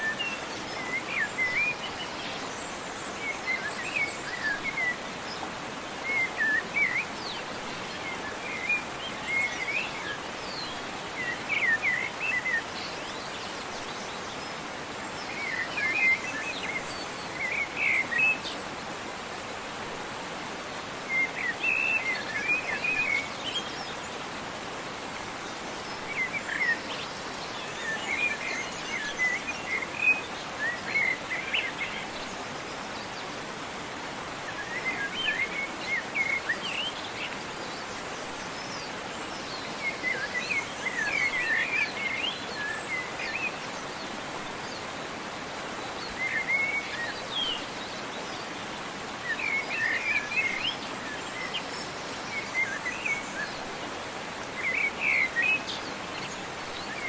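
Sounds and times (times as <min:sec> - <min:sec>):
songbirds chirping: 0:00.0 - 0:57.0
waterfall rushing: 0:00.0 - 0:57.0.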